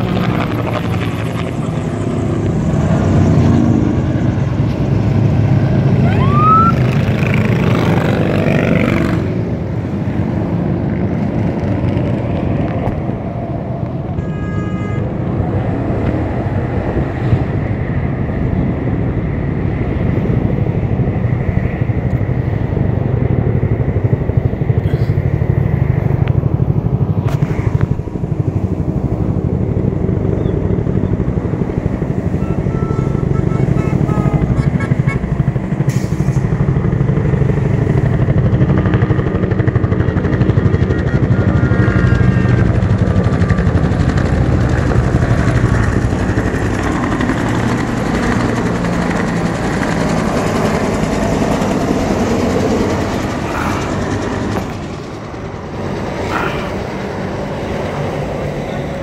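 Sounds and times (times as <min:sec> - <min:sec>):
helicopter engine drone: 0:00.0 - 0:59.0
helicopter rotor beating: 0:00.0 - 0:59.0.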